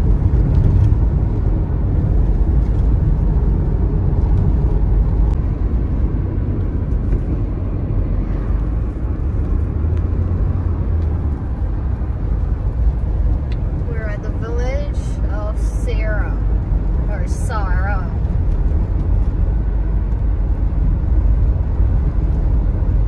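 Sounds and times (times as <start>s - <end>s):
road and engine noise in car cabin: 0.0s - 23.0s.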